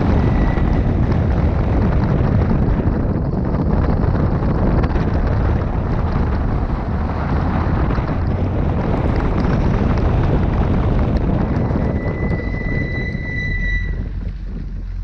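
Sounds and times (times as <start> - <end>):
car engine: 0.0 - 15.0
wind buffeting microphone: 0.0 - 15.0.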